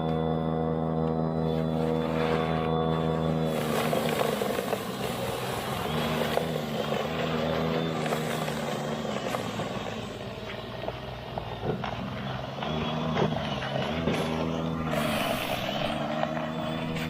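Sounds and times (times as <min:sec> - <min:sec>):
snow blower motor humming: 0:00.0 - 0:17.0.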